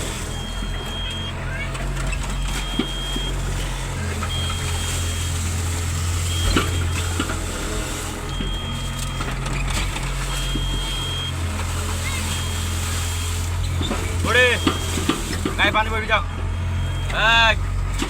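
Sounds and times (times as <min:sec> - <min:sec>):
warning beeper beeping: 0:00.0 - 0:17.8
diesel engine running: 0:00.0 - 0:18.0.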